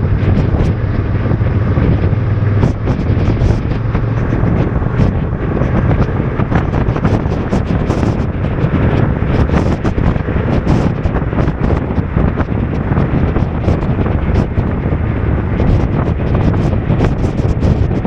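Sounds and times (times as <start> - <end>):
rain ticking on microphone: 0.0 - 18.0
wind buffeting microphone: 0.0 - 18.0.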